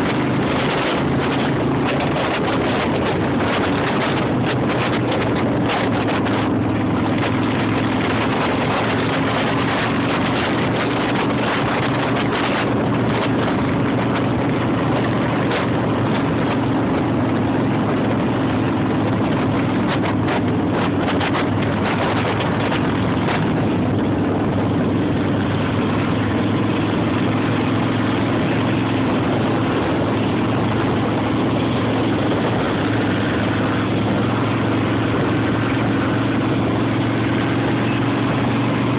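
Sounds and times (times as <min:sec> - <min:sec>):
engine droning steadily: 0:00.0 - 0:38.9
road noise: 0:00.0 - 0:38.9
wind rush: 0:00.0 - 0:38.9.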